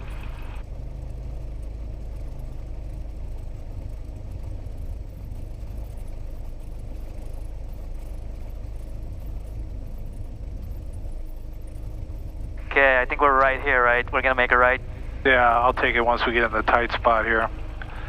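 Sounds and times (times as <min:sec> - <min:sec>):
light aircraft engine droning: 0:00.0 - 0:18.0.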